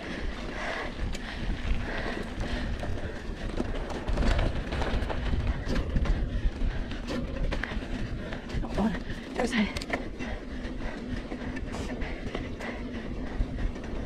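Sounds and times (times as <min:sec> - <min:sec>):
bike clicks and rattles: 0:00.0 - 0:14.0
bike tyre and wind rumble: 0:00.0 - 0:14.0.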